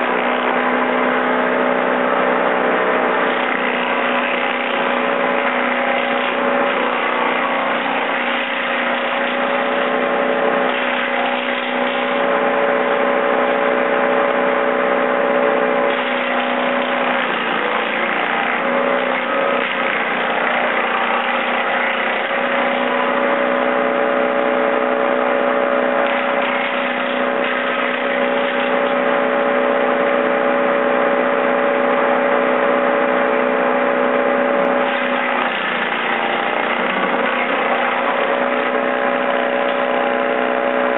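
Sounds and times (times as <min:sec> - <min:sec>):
tractor diesel engine: 0:00.0 - 0:40.9
wood chipper chipping branches: 0:00.0 - 0:40.9.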